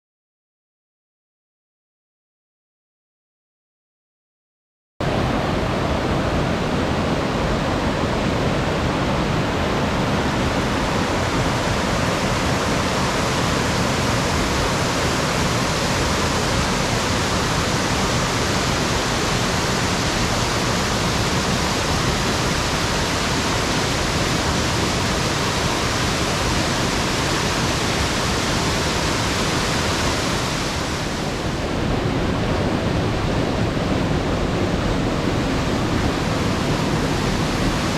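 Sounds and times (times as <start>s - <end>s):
waterfall rushing: 5.0s - 37.9s.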